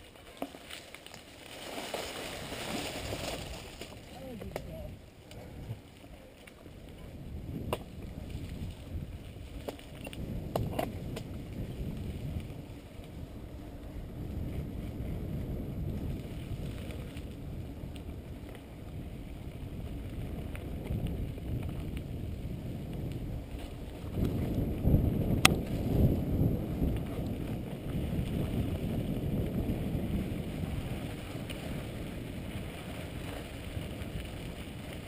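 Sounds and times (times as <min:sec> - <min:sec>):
bike tyres on dirt trail: 0:00.0 - 0:35.0
wind rushing over microphone: 0:02.2 - 0:06.0, 0:06.7 - 0:35.0.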